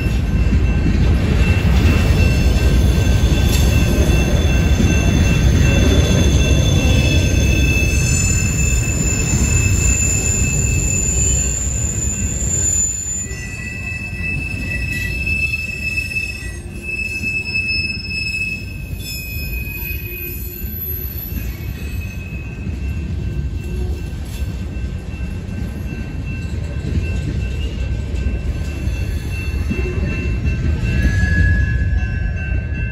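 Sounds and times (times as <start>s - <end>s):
train cars rumbling past: 0.0s - 32.9s
train wheels squealing: 0.0s - 32.9s.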